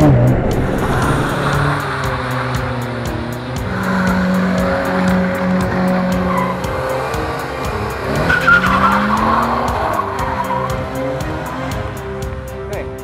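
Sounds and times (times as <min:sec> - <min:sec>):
car engine revving: 0:00.0 - 0:12.7.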